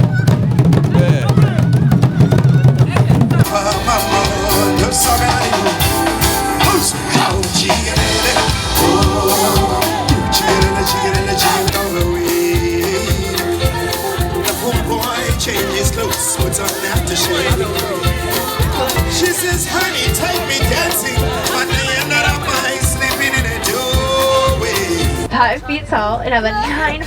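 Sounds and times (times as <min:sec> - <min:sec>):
background music with beat: 0:03.4 - 0:25.3
person singing: 0:03.4 - 0:25.3.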